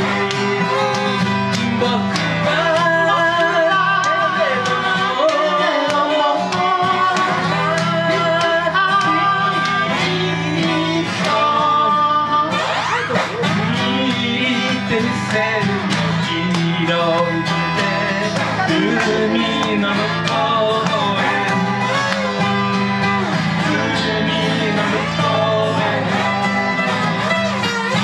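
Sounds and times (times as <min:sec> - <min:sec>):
acoustic guitar strumming: 0:00.0 - 0:28.0
lap guitar lead with bending notes: 0:00.0 - 0:28.0.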